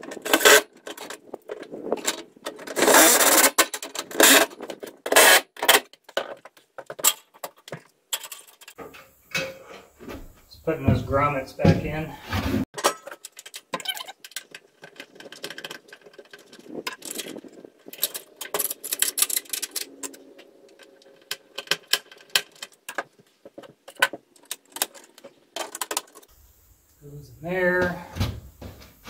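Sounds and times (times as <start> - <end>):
clicks and rattles in metal panel: 0.0 - 9.8, 12.8 - 26.3.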